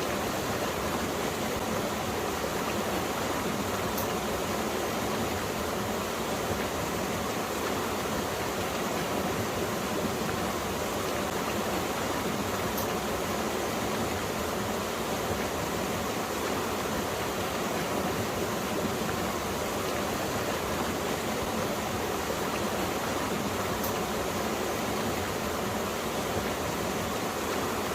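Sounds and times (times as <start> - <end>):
stream flowing: 0.0 - 27.9.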